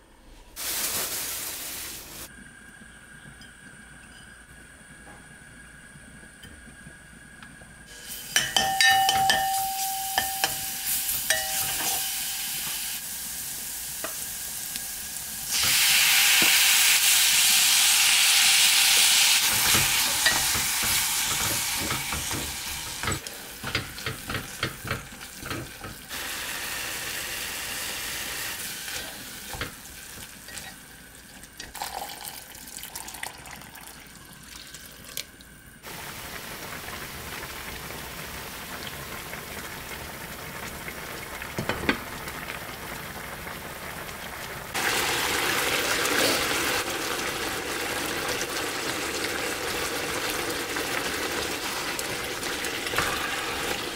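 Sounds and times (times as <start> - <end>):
food sizzling in hot oil: 0.6 - 2.3, 7.9 - 33.3, 35.8 - 53.9.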